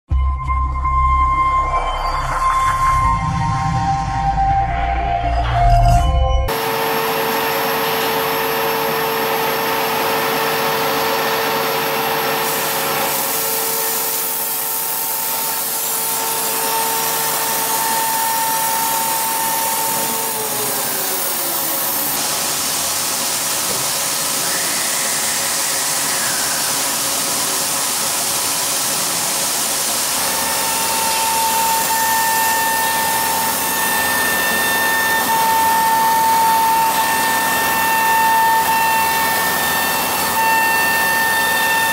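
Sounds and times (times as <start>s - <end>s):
hiss of cutting metal panel: 6.5s - 41.9s
router spindle whine: 6.5s - 41.9s.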